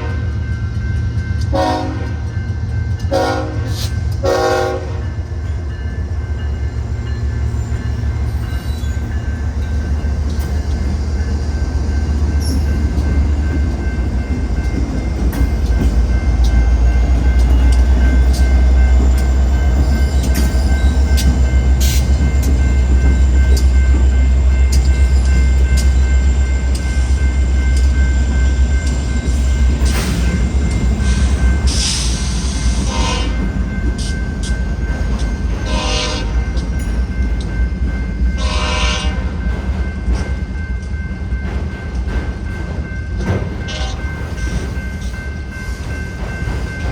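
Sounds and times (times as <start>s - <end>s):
crossing bell ringing: 0.0s - 46.9s
diesel locomotive engine drone: 0.0s - 46.9s
railcars clanking: 0.0s - 46.9s.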